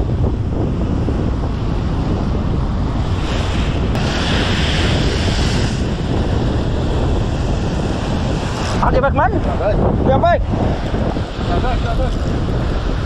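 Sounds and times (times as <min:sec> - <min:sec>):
sea surf on shore: 0:00.0 - 0:13.0
wind buffeting microphone: 0:00.0 - 0:13.0.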